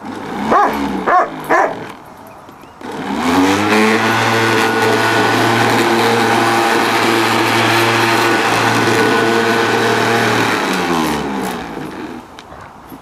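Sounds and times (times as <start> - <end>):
electric mower motor whine: 0.0 - 12.4.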